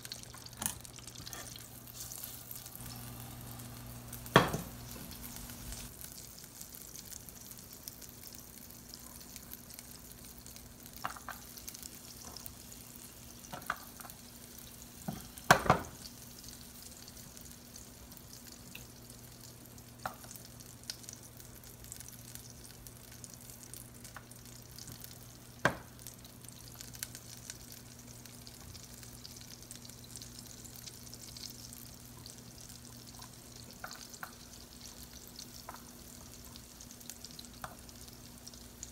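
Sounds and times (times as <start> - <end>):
oil sizzling in a saucepan: 0.0 - 38.9.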